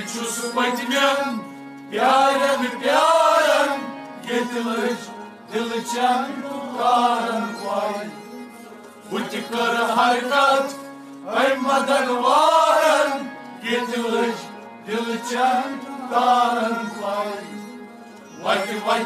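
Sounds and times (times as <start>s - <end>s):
men singing: 0.0s - 8.2s, 9.1s - 17.7s, 18.4s - 19.0s
harmonium holding notes: 0.0s - 19.0s.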